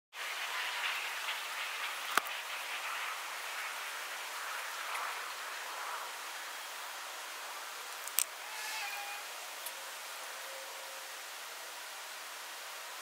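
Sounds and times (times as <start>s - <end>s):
sped-up rain-like hiss: 0.1s - 13.0s.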